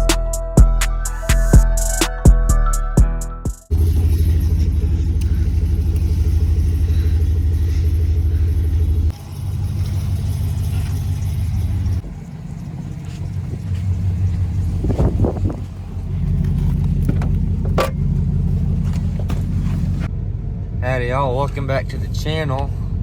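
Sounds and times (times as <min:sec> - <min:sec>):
pickup truck engine rumbling: 0:00.0 - 0:23.0.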